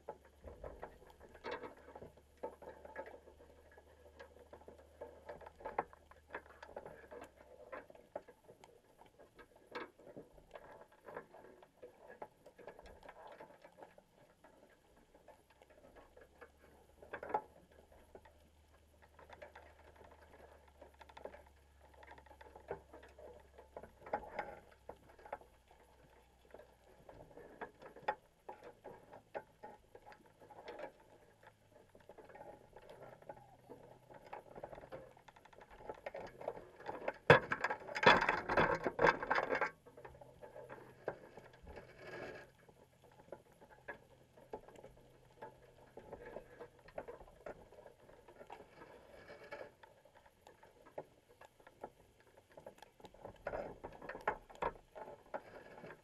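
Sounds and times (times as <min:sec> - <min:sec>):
small underwater clicks and taps: 0:00.0 - 0:56.0.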